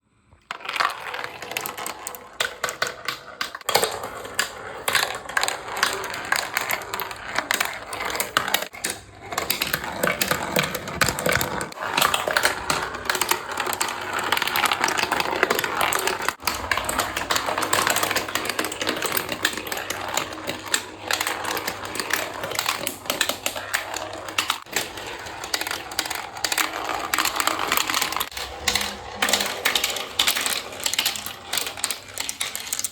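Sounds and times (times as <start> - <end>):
marbles clattering down wooden track: 0.4 - 32.9.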